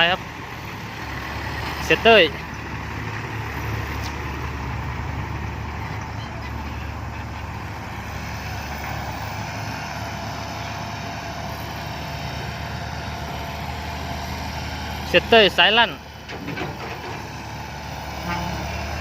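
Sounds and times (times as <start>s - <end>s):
dump truck diesel engine running: 0.0s - 19.0s.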